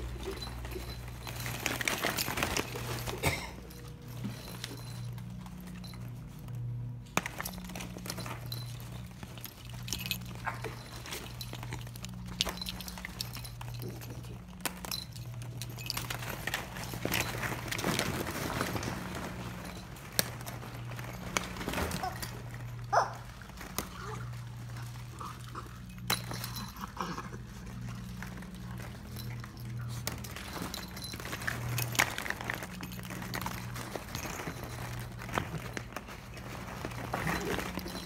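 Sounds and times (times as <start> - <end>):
plastic balls clattering: 0.0 - 38.0.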